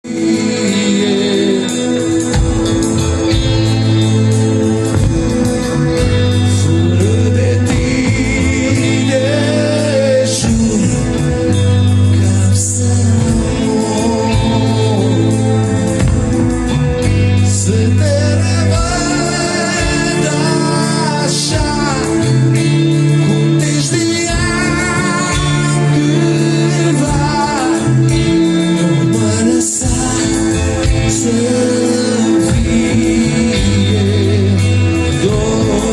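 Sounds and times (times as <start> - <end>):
rock band playing live: 0.0 - 35.9.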